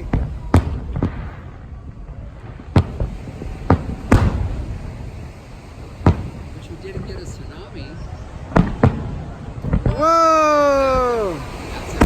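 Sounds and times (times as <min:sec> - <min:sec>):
fireworks booming with echo: 0:00.0 - 0:12.0
lighter fireworks bangs: 0:00.0 - 0:12.0.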